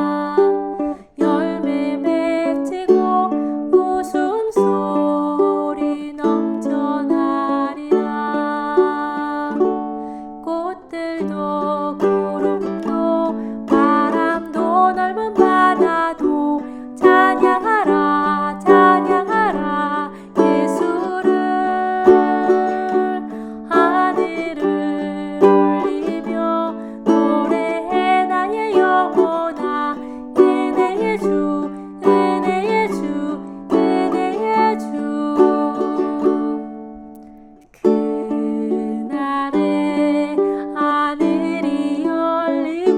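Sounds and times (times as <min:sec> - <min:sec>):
ukulele chords: 0:00.0 - 0:42.9.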